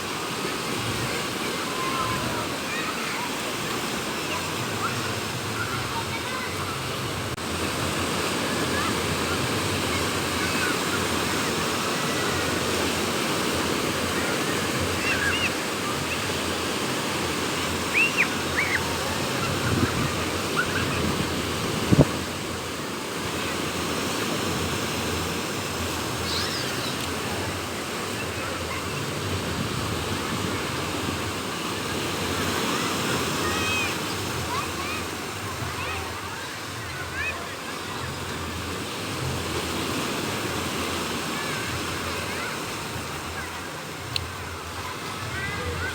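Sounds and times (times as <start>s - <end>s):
waves breaking on a beach: 0.0s - 45.9s
wind: 0.0s - 45.9s.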